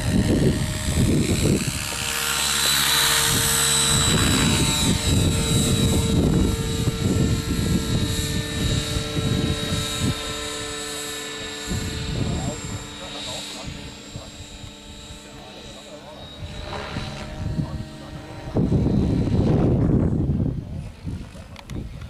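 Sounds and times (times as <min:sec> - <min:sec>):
rotor blades whooshing: 0:00.0 - 0:21.6
electric motor whine: 0:00.0 - 0:22.0.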